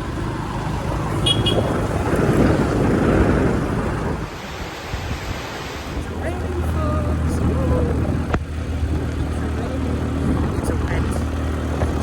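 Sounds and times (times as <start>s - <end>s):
motorcycle engine rumbling: 0.0s - 5.2s, 5.8s - 12.0s.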